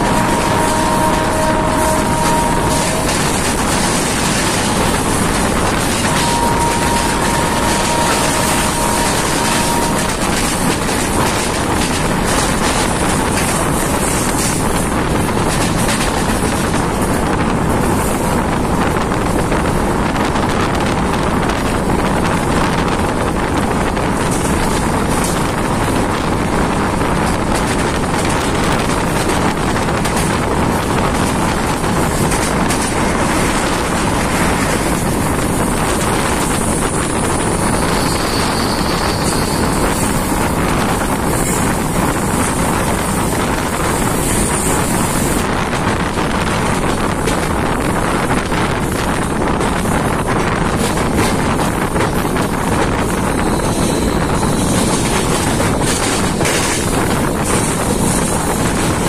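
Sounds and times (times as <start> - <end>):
passenger train running at speed: 0.0 - 59.0
wind buffeting microphone: 0.0 - 59.0.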